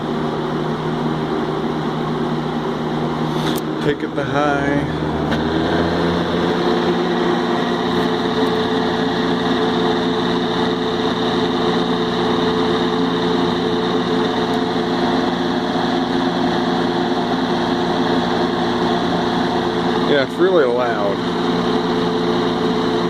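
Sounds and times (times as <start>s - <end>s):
box fan humming: 0.0s - 23.0s.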